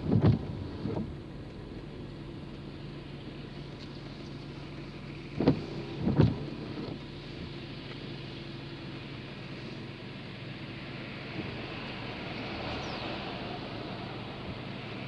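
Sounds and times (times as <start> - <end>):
engine and road hum in car: 0.0 - 15.0.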